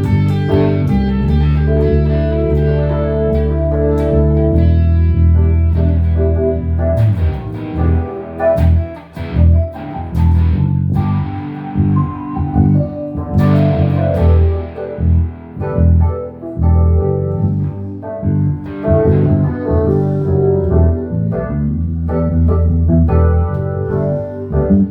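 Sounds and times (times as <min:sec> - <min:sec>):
guitar plucked notes: 0:00.0 - 0:24.9
low bass line: 0:00.0 - 0:24.9.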